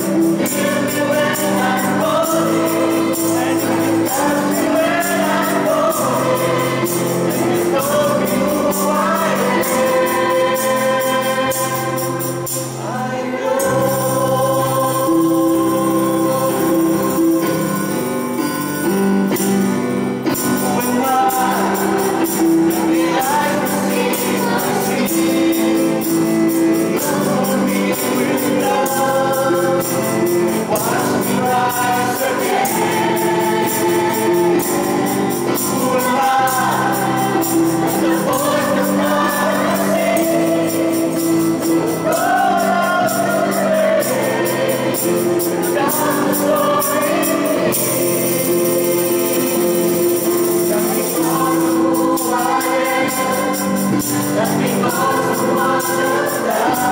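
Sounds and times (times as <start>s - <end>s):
electric keyboard chords: 0.0s - 56.9s
mixed choir singing: 0.0s - 56.9s
shaken percussion rhythm: 0.0s - 56.9s.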